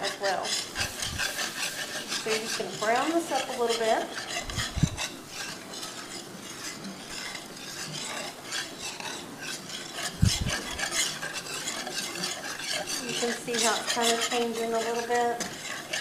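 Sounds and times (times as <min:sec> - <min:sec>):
roux bubbling and sizzling: 0:00.0 - 0:16.0
whisk scraping metal skillet: 0:00.0 - 0:16.0.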